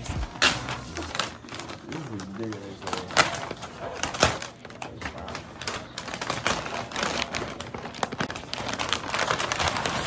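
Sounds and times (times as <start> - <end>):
wrapping paper tearing and crumpling: 0.0 - 10.0.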